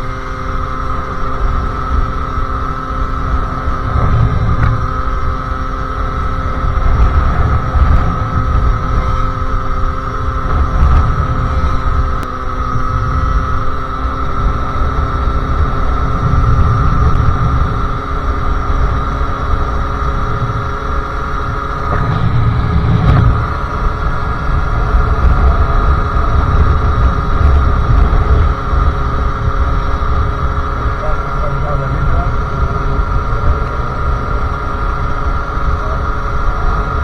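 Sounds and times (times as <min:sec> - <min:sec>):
two-stroke engine at steady revs: 0:00.0 - 0:37.0.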